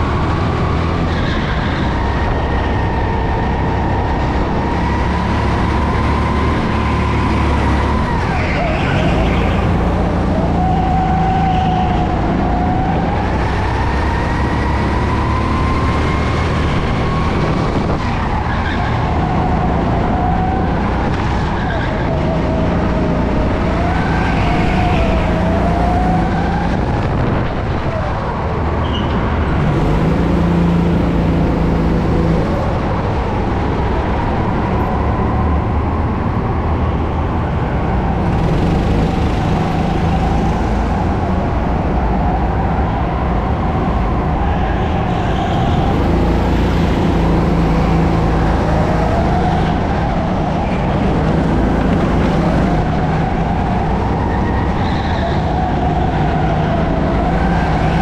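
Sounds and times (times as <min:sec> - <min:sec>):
go-kart engine racing: 0:00.0 - 0:58.0.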